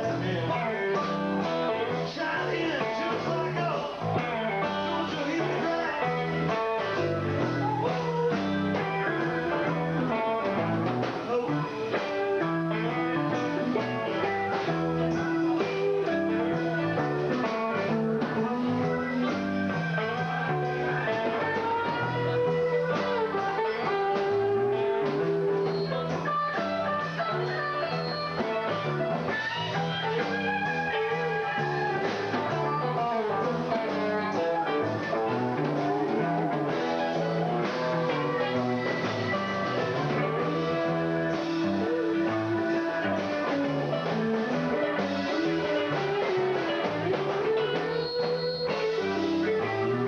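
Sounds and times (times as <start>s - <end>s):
bass line: 0.0s - 50.0s
electric guitar lead: 0.0s - 50.0s.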